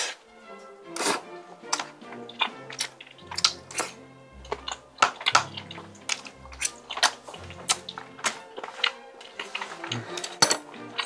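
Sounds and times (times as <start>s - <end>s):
soft background music: 0.0s - 11.0s
wet chewing mouth clicks: 1.0s - 11.0s.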